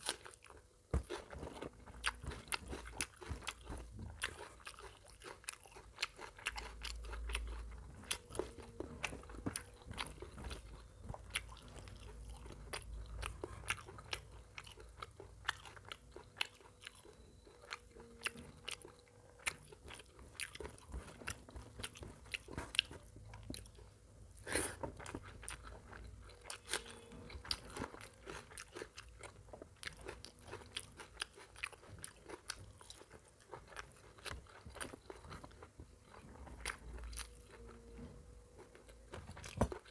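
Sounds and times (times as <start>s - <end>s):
chewing and wet smacks: 0.0s - 24.0s, 24.8s - 39.9s.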